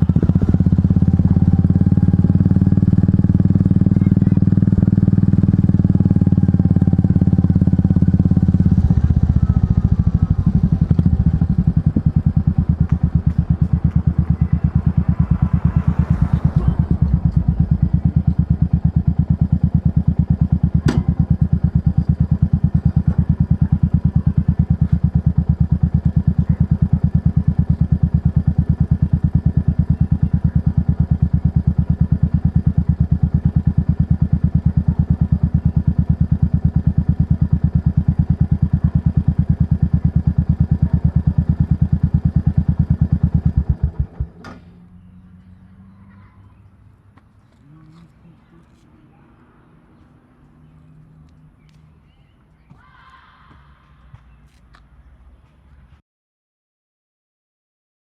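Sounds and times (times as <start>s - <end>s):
motorcycle engine idling: 0.0s - 54.6s.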